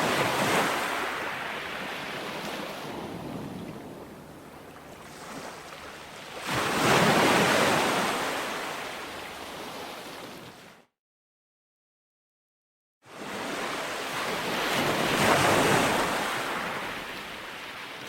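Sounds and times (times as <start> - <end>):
ocean waves breaking: 0.0 - 10.8, 13.1 - 18.0.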